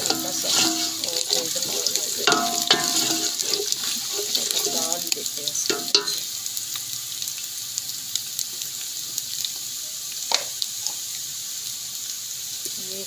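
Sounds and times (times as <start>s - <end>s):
garlic frying in hot oil: 0.0s - 13.0s.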